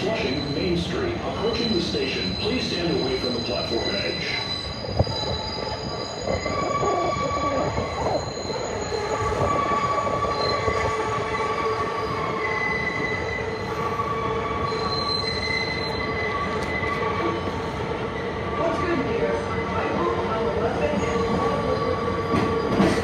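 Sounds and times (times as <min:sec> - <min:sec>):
train rumbling: 0:00.0 - 0:23.0
train wheels squealing: 0:00.0 - 0:23.0.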